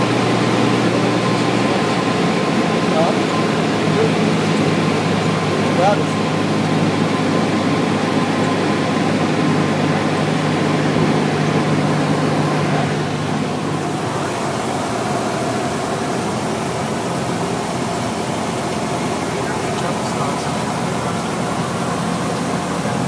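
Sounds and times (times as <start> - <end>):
light plane engine drone: 0.0 - 23.0.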